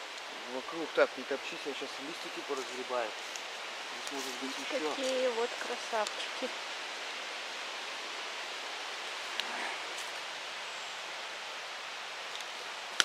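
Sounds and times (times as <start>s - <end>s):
forest ambience hiss: 0.0s - 13.0s.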